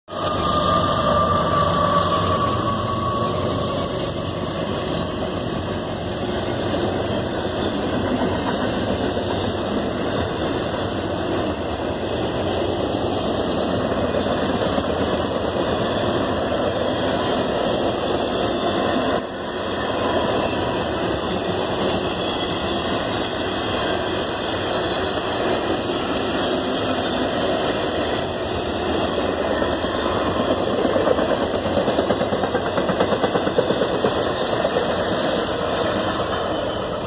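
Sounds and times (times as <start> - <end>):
train cars rumbling on rails: 0.0 - 37.0
diesel locomotives running: 0.1 - 37.0.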